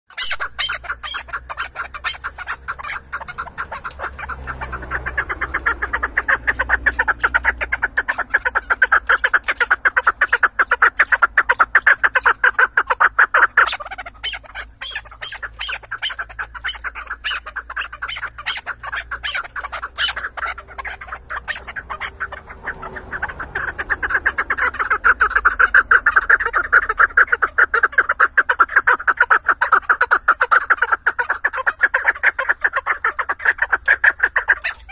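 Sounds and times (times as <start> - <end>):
partridge clucking calls: 0.1 - 34.9.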